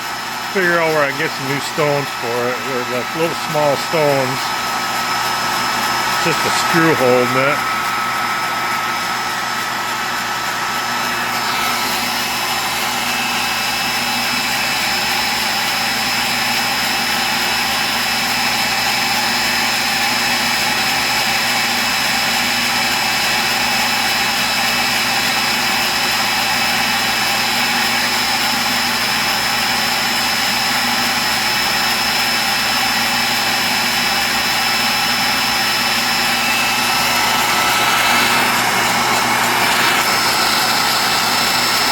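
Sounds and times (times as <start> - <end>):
tool post grinder whine: 0.0 - 41.9.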